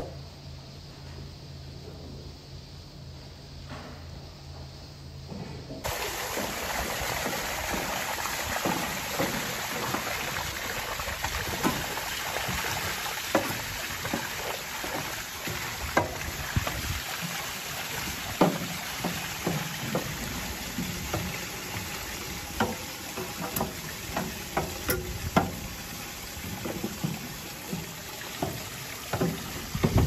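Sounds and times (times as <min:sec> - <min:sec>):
water splashing and sloshing: 0:05.8 - 0:30.0.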